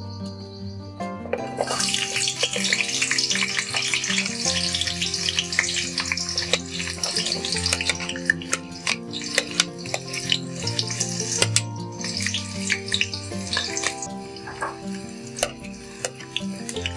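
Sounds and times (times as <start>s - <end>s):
pieces clicking into pan: 1.3s - 16.9s
onions sizzling in hot oil: 1.4s - 16.9s.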